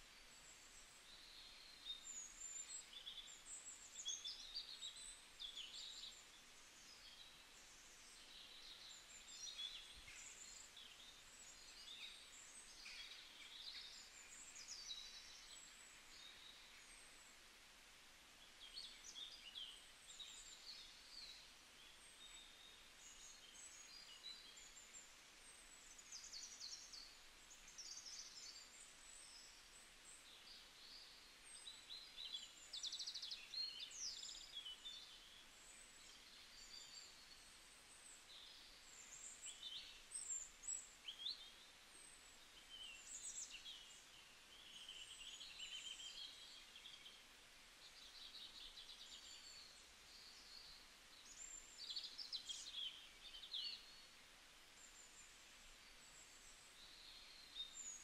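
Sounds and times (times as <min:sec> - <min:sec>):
low steady hiss: 0:00.0 - 0:58.0
small birds chirping: 0:00.0 - 0:58.0.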